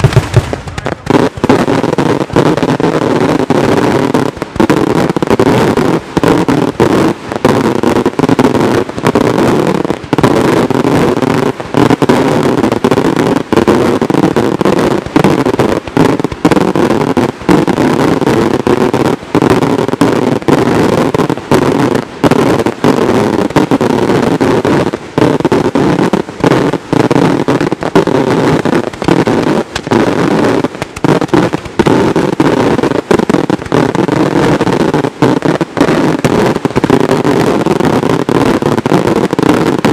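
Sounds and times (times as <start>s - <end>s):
fireworks barrage: 0.0s - 39.9s.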